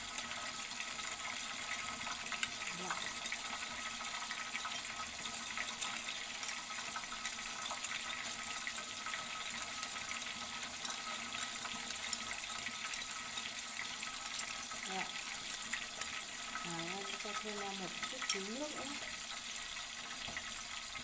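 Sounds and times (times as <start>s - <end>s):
wings deep-frying in oil: 0.0s - 21.0s.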